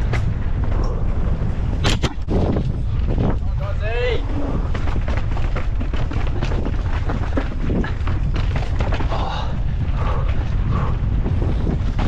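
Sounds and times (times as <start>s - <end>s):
bike knocks and rattles: 0.0s - 0.8s, 1.7s - 12.0s
wind on microphone: 0.0s - 12.0s.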